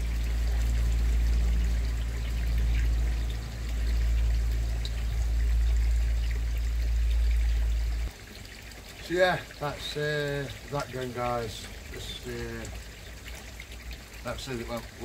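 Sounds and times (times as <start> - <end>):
water pouring and trickling: 0.0 - 15.0.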